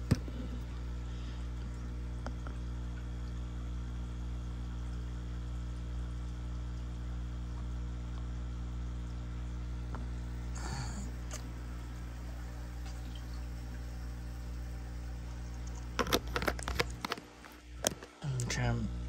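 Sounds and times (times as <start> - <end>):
low electrical mains hum: 0.0 - 19.0.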